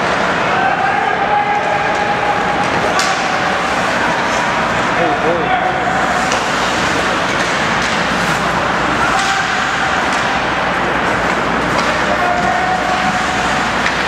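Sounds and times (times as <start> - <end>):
skating rink noise: 0.0 - 14.0.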